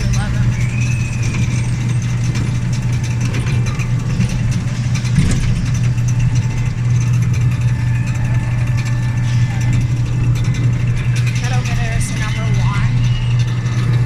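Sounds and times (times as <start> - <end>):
train engine humming: 0.0 - 14.0.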